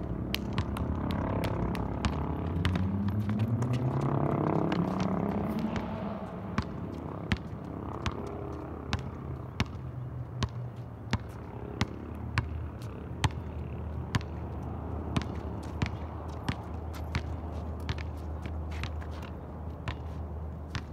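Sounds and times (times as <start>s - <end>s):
basketball bouncing on asphalt: 0.0s - 20.9s.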